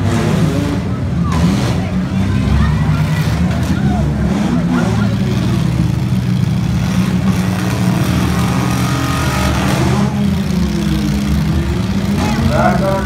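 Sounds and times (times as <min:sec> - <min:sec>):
car engine revving: 0:00.0 - 0:13.0
car engines droning: 0:00.0 - 0:13.0.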